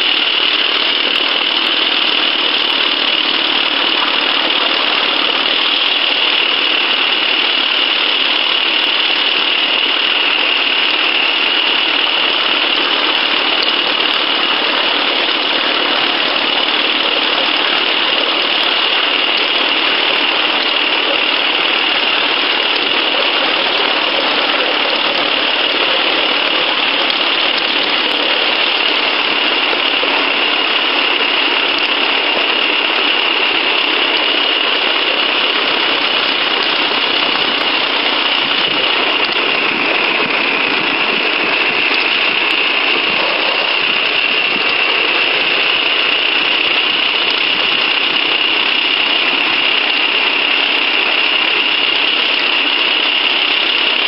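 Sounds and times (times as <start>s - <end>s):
steam locomotive rushing noise: 0.0s - 54.0s.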